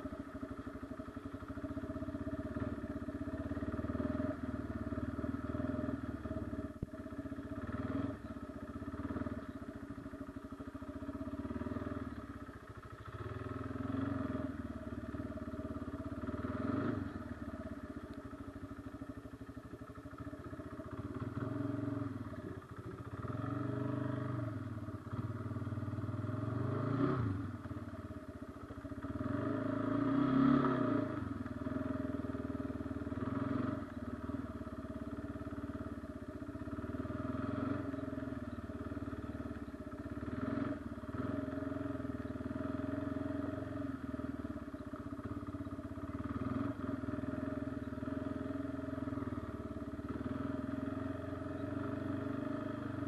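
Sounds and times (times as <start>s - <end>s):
quad bike engine revving: 0.0s - 0.8s, 1.4s - 10.0s, 11.0s - 19.1s, 20.1s - 53.0s.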